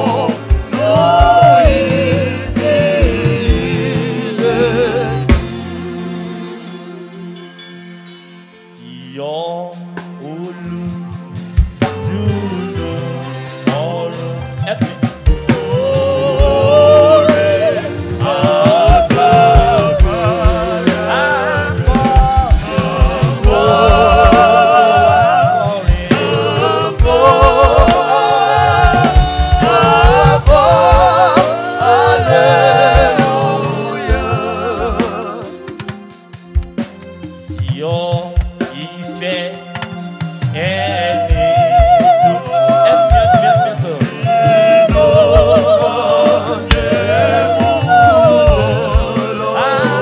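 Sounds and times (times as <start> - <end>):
band with bass and drums: 0.0 - 8.7, 9.5 - 50.0
gospel singing with vibrato: 0.0 - 50.0.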